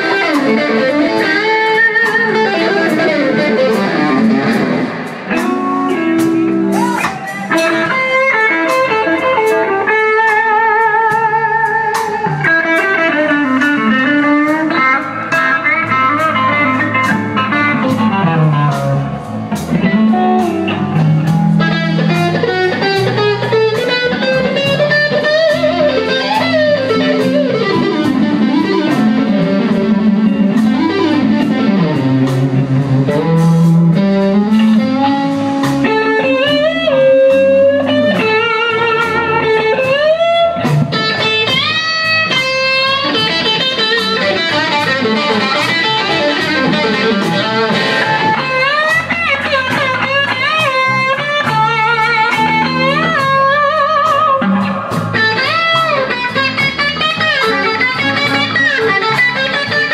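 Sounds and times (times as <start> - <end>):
electric guitar blues solo: 0.0 - 59.9
steady drum beat: 0.0 - 59.9
walking bass line: 0.0 - 59.9.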